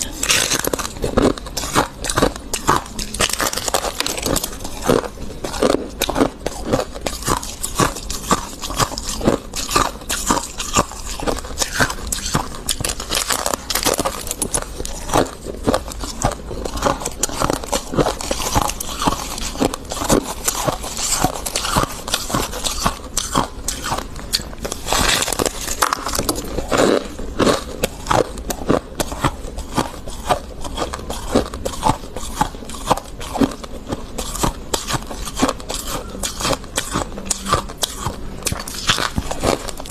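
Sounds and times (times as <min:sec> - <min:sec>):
frost being chewed crunching: 0:00.0 - 0:39.9.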